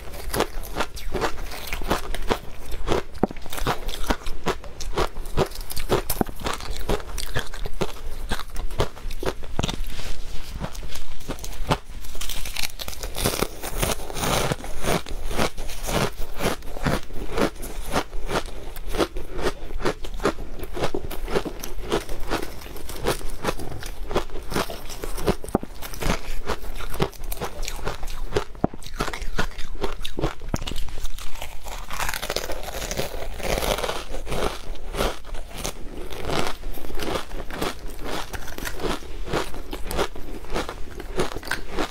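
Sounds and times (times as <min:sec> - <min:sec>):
crunching shaved ice: 0:00.0 - 0:41.9.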